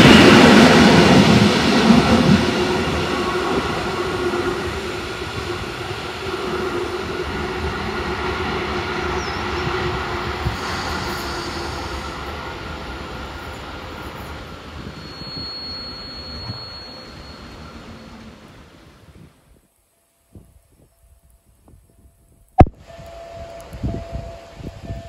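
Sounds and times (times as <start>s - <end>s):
train hum: 0.0s - 19.6s, 20.3s - 25.0s
train rolling on rails: 0.0s - 19.6s, 20.4s - 25.0s.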